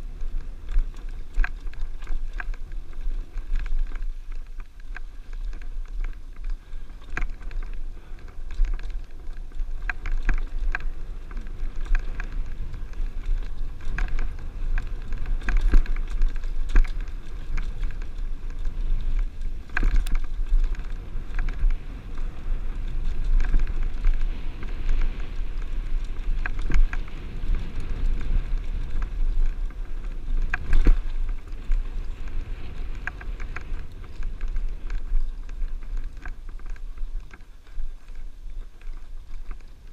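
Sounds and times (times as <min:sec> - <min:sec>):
bike knocking and rattling on rock: 0:00.0 - 0:39.9
wind buffeting microphone: 0:00.0 - 0:39.9.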